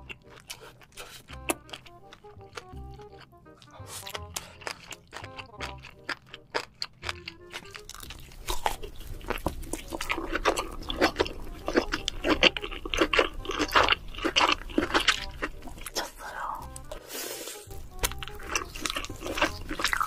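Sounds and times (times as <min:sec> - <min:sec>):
crunching and chewing: 0:00.0 - 0:20.0.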